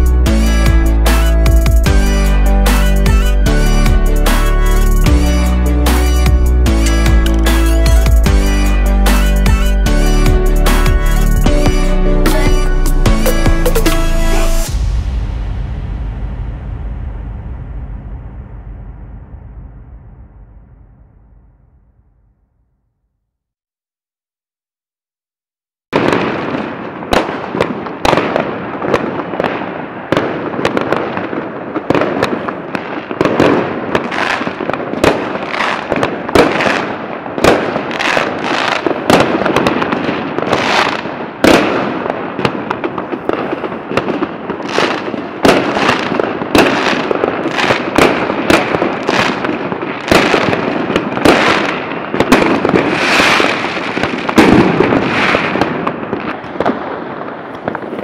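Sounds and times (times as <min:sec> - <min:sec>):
fireworks crackling: 0:00.0 - 0:21.8, 0:25.9 - 0:58.0
fireworks bangs and cracks: 0:00.0 - 0:22.1, 0:25.9 - 0:58.0.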